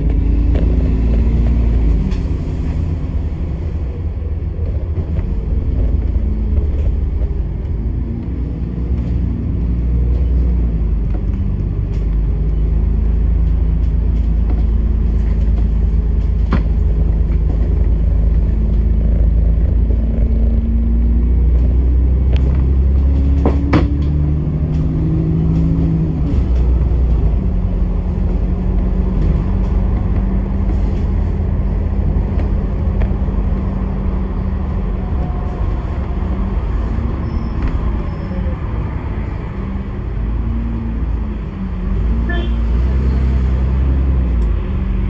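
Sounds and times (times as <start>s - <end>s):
bus engine running: 0.0s - 45.0s
road rumble: 0.0s - 45.0s.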